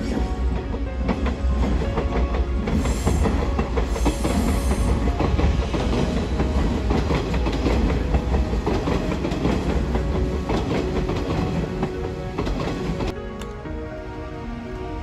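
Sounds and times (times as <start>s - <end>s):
wheels clacking over rail joints: 0.0s - 13.2s
train rumbling: 0.0s - 15.0s.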